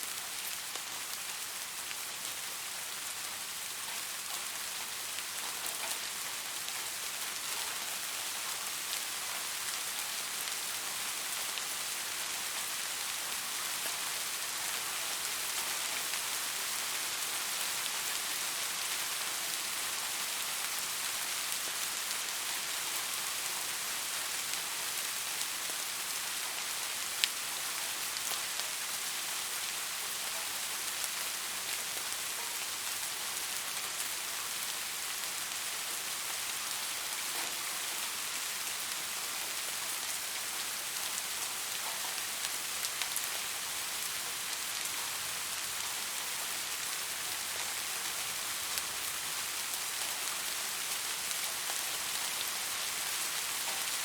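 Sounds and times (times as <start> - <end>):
rain falling on surface: 0.0 - 54.0.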